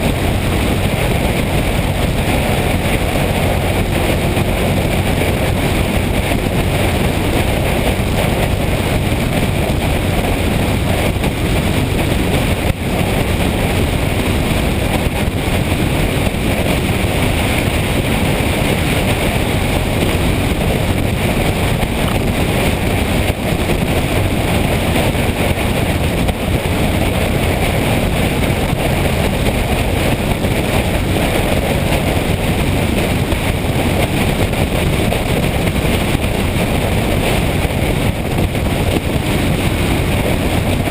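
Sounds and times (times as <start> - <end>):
motorcycle engine: 0.0 - 40.9
wind on microphone: 0.0 - 40.9.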